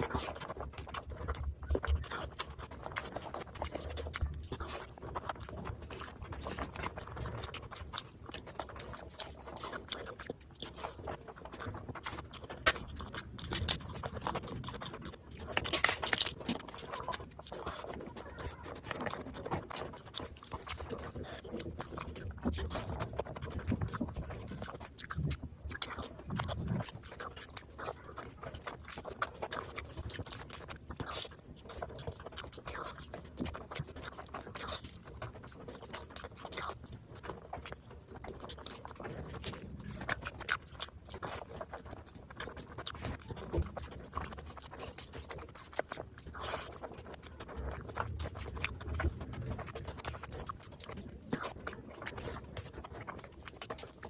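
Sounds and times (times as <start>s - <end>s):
chewing food: 0.0s - 54.0s
lip smacking: 0.0s - 54.0s.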